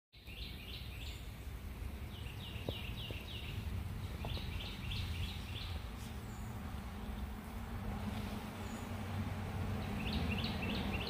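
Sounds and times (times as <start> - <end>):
small bird singing: 0.2 - 7.4, 8.5 - 11.0.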